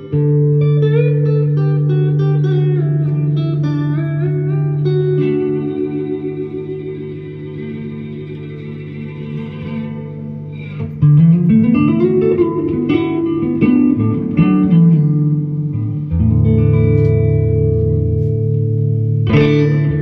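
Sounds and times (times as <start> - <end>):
low guitar chord ringing: 0.0 - 20.0
electric guitar slide notes: 1.0 - 18.5.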